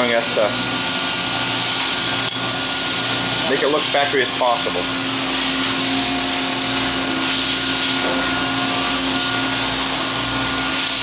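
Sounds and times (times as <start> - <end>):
machine hissing and humming: 0.0 - 11.0.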